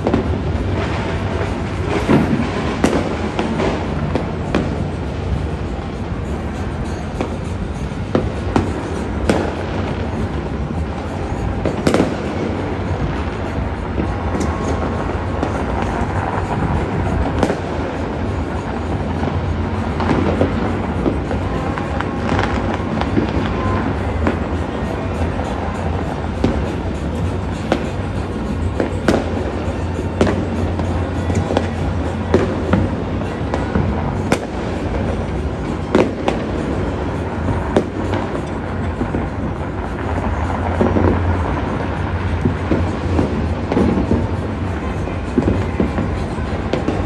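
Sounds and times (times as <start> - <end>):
distant fireworks crackling: 0.0 - 47.0
low rumble of explosions: 0.0 - 47.0
sharp firecracker bangs: 0.0 - 47.0.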